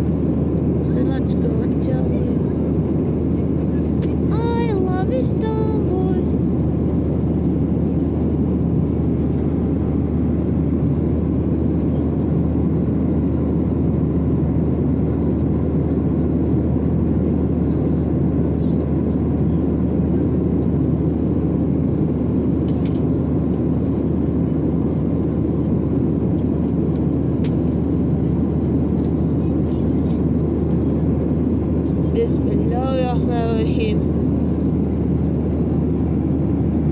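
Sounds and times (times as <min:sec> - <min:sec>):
jet cabin roar: 0:00.0 - 0:36.9.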